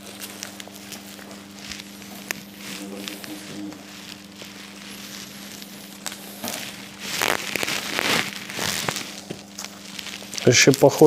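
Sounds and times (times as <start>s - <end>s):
fabric straps rustling: 0.0s - 11.0s.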